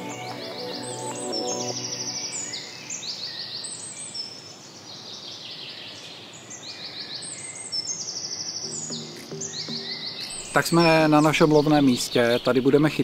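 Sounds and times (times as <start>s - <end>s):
outdoor background hiss: 0.0s - 13.0s
songbirds chirping: 0.0s - 13.0s.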